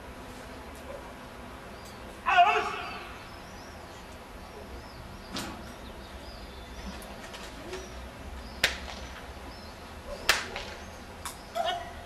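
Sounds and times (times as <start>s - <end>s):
small birds chirping: 1.6s - 12.0s.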